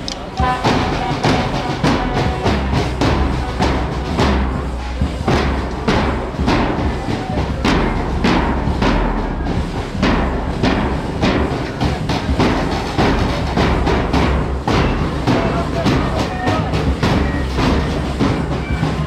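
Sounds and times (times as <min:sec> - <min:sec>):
bass drums struck with beaters: 0:00.0 - 0:19.0
side drums marching rhythm: 0:00.0 - 0:19.0.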